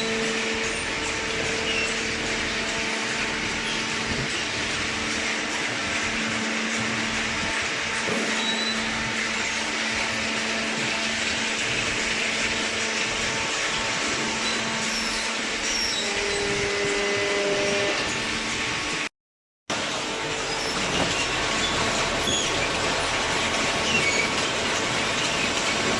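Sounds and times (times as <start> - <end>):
cardboard baler running: 0.0 - 19.0, 19.7 - 25.9.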